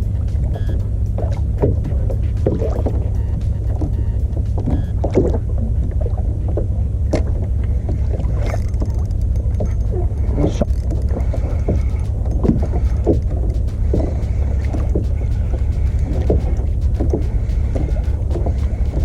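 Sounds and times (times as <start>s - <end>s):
steady low rumble: 0.0s - 19.0s
water splashing against kayak hull: 0.0s - 19.0s.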